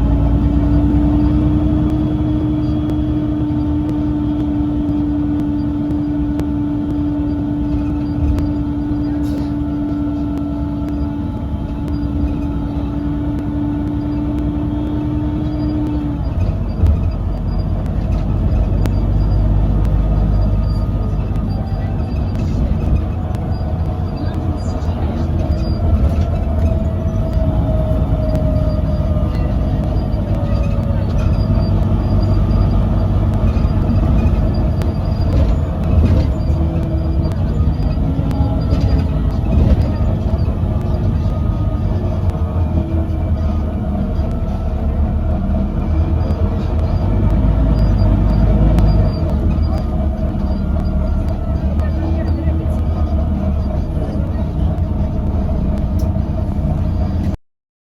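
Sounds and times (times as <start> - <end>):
bus engine and road rumble: 0.0 - 57.4
odd-sounding hum: 0.0 - 57.4.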